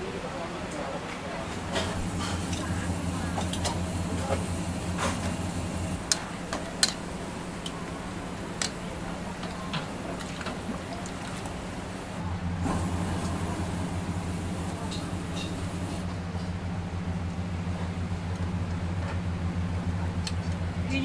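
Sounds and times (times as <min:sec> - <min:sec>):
gas burners roaring: 0:00.8 - 0:21.0.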